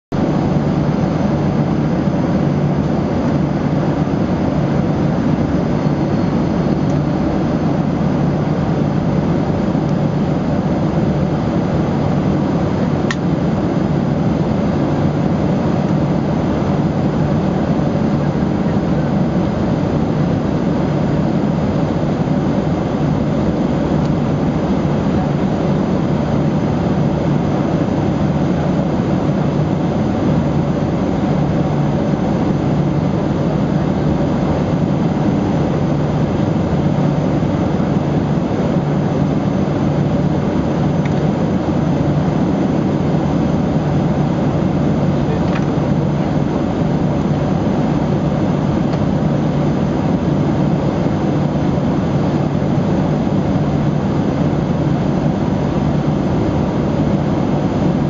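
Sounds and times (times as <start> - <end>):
jet engine cabin noise: 0.1 - 58.0.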